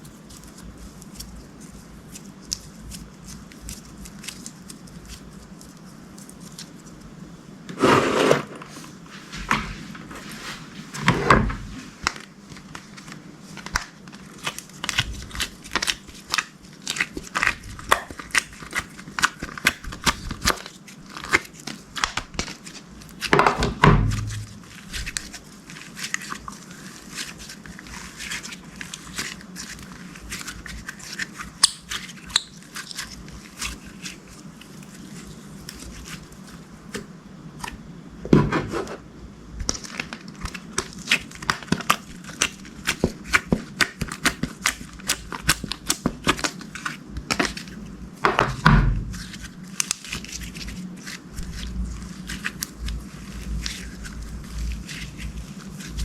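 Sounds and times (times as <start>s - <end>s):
slime crinkling and squishing: 0.0s - 7.2s, 8.8s - 37.0s, 39.6s - 56.0s.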